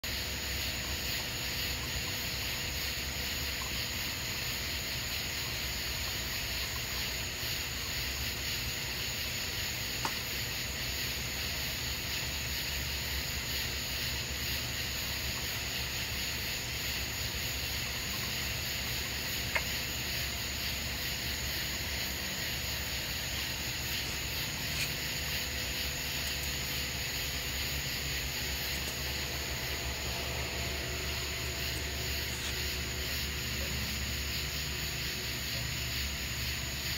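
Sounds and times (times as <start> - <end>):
aquarium equipment hiss and hum: 0.0 - 36.9.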